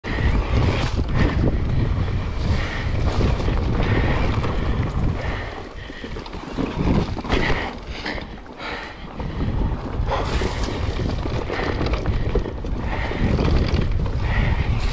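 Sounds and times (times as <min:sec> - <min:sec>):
bike knocking and rattling: 0:00.0 - 0:14.9
tyres rumbling on dirt: 0:00.0 - 0:14.9
wind buffeting microphone: 0:00.0 - 0:14.9.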